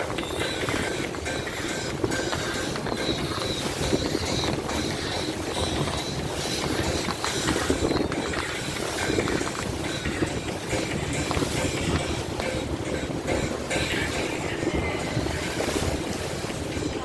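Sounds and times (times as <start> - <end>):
boat engine running: 0.0 - 17.0
rushing water: 0.0 - 17.0.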